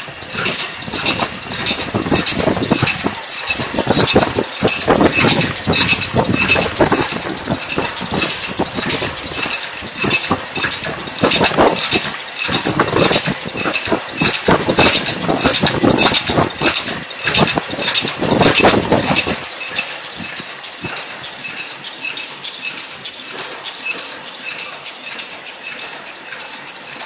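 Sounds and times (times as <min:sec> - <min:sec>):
machine clattering: 0:00.0 - 0:27.0.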